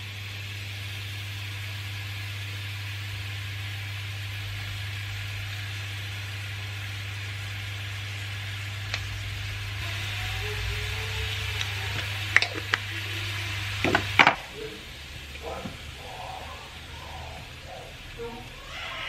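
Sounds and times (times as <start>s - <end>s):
onions sizzling in oil: 0.0s - 19.0s
low hum: 1.6s - 19.0s.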